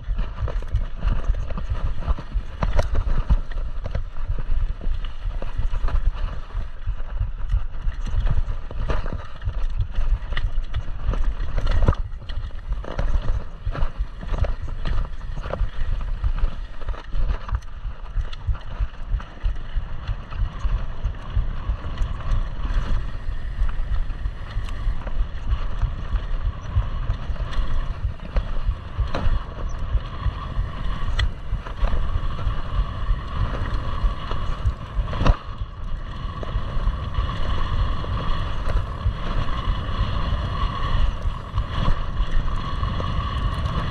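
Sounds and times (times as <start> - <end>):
bike rattling and knocking: 0.0 - 43.9
wind buffeting microphone: 0.0 - 43.9.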